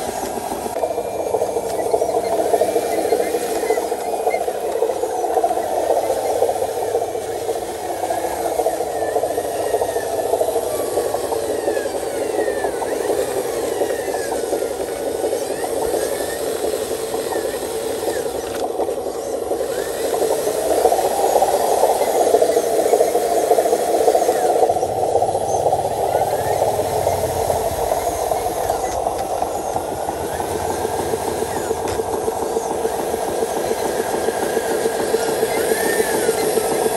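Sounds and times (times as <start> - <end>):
model truck motor buzzing whir: 0.0 - 36.9.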